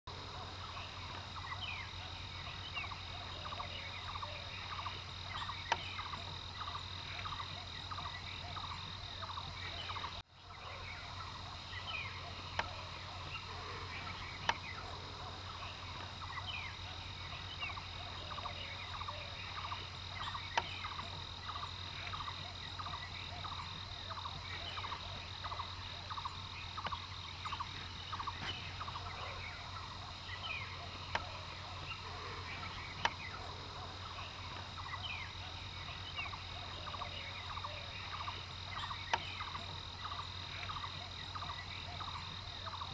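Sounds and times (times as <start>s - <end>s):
high insect buzz: 0.1s - 42.9s
rapid chirping calls: 0.1s - 42.9s.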